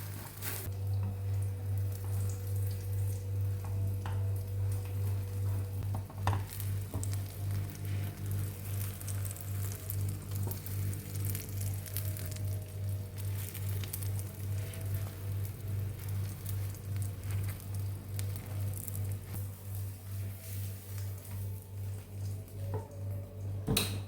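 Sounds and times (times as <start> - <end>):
food frying in hot oil: 0.0 - 22.4
low pulsing hum: 0.0 - 24.0.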